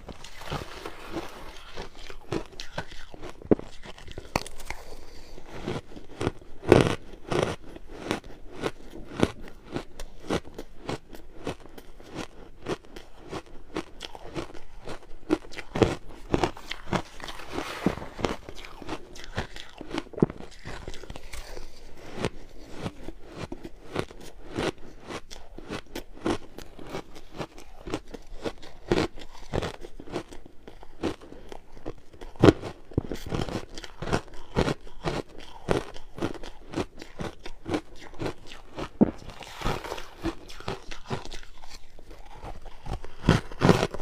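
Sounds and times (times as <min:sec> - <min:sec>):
ice being chewed: 0:00.0 - 0:44.0.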